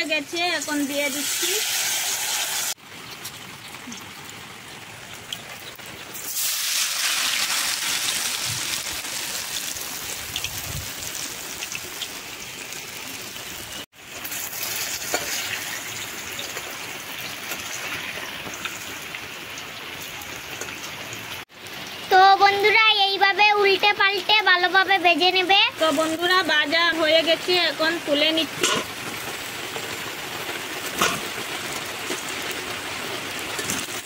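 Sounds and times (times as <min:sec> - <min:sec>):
hot oil sizzling: 0:00.0 - 0:34.0.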